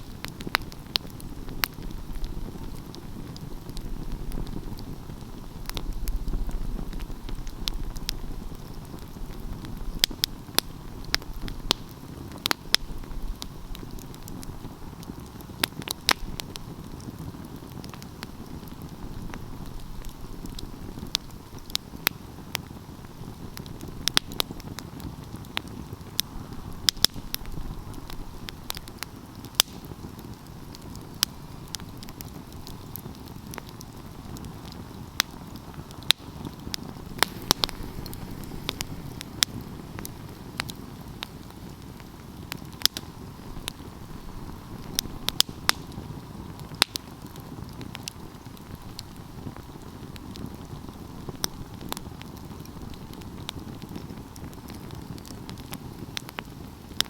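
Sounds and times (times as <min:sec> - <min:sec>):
low rush of flames: 0:00.0 - 0:57.0
wood fire crackling and popping: 0:00.0 - 0:57.0.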